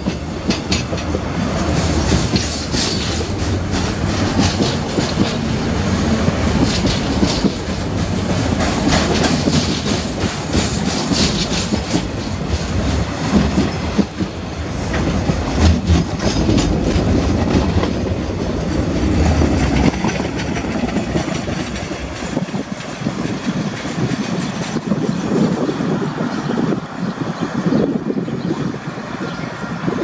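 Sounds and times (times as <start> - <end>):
train wheels clicking over rail joints: 0.0 - 26.5
freight train rumble: 0.0 - 30.0.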